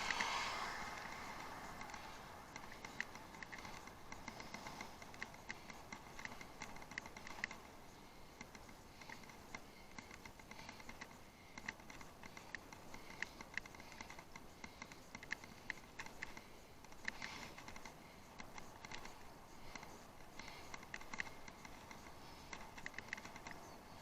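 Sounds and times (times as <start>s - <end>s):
bicycle clicks and rattles: 0.0s - 24.0s
steady hiss: 0.0s - 24.0s.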